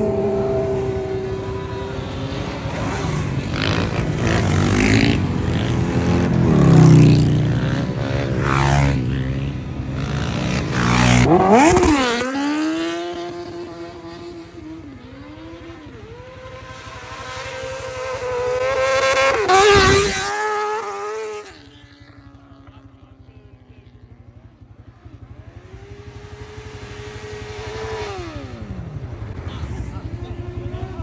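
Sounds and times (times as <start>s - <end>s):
motorcycles passing and revving: 0.0s - 31.0s.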